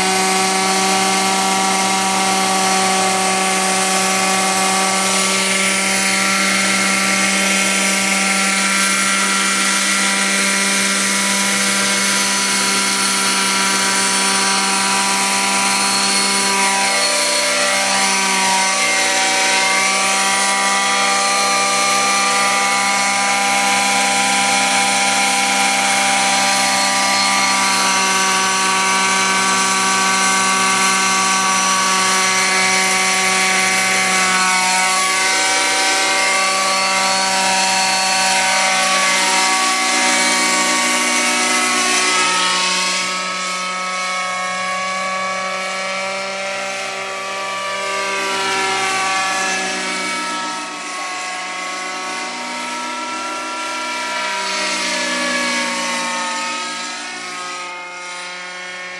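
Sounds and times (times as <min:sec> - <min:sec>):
model helicopter engine buzzing: 0:00.0 - 0:58.9.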